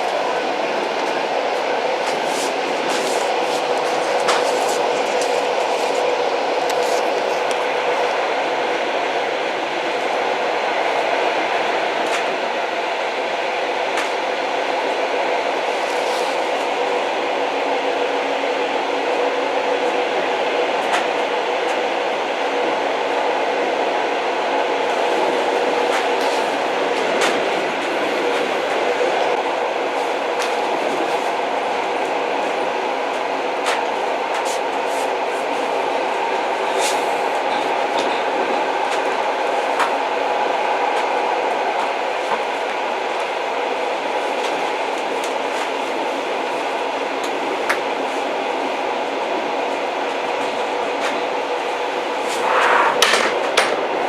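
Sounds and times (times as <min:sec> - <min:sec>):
old train rolling rumble: 0:00.0 - 0:54.0.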